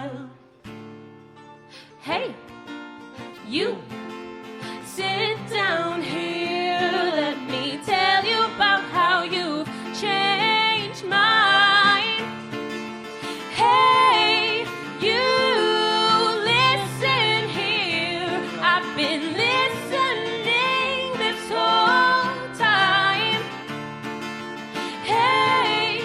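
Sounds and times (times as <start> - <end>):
woman singing: 0.0 - 0.4, 2.0 - 2.5, 3.3 - 4.0, 4.7 - 12.4, 13.3 - 23.7, 24.8 - 26.0
country guitar backing: 0.0 - 26.0.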